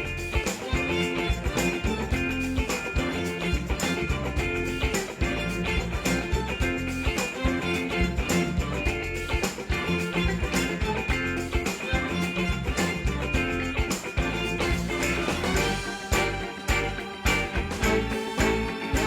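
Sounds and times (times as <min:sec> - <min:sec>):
upbeat guitar music with drums: 0:00.0 - 0:19.0.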